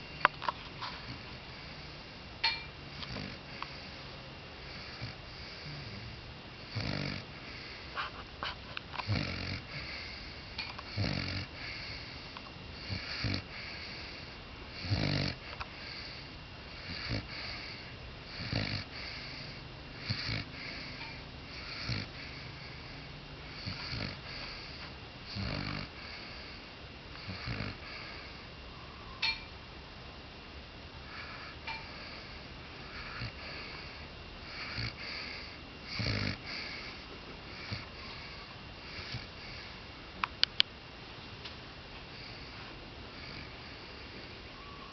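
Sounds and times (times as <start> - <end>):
puppy snoring: 0.0 - 28.5, 31.0 - 39.9, 42.1 - 44.9.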